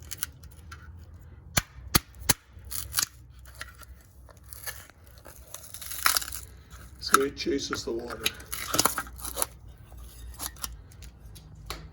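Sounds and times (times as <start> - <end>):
crunching and crackling handling: 2.0 - 11.8.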